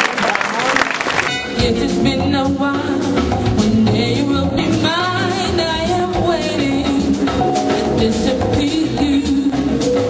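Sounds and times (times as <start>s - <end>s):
live band with singing voice: 0.0s - 10.0s.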